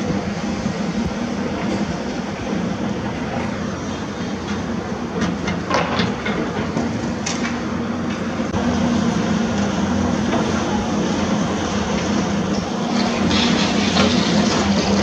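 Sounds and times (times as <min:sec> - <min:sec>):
excavator diesel engine running: 0:00.1 - 0:15.0.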